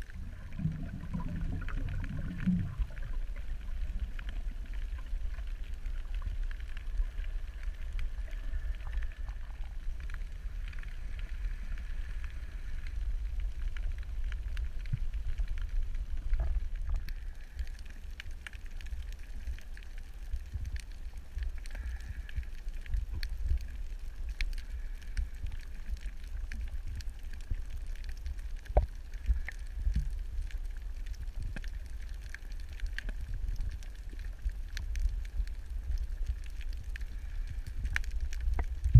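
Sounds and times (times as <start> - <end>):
faint underwater clicks and crackles: 0.0 - 38.9
underwater rumble of moving water: 0.0 - 38.9.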